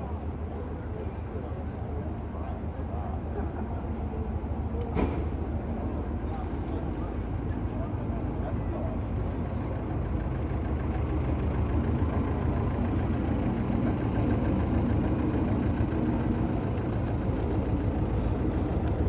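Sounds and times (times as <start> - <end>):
boat engine pulsing drone: 0.0 - 19.0.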